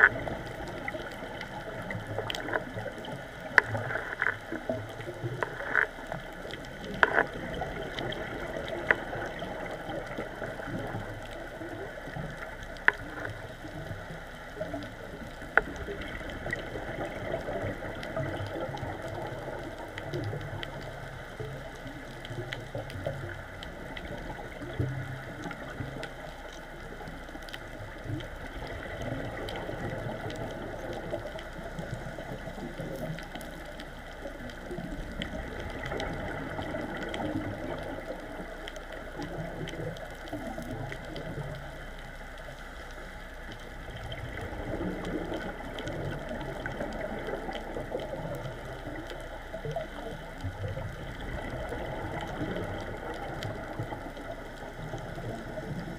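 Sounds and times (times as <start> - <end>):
faint scattered clicks: 0.0 - 55.9
low underwater rumble: 0.0 - 55.9
muffled underwater wash: 0.0 - 55.9.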